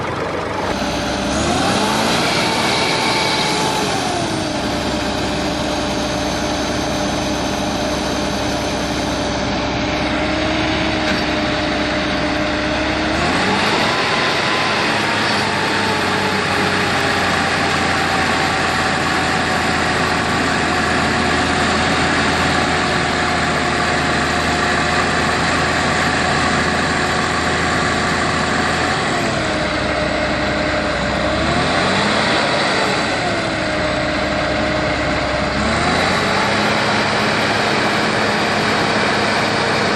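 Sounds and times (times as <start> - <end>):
diesel engine revving under load: 0.0 - 39.9.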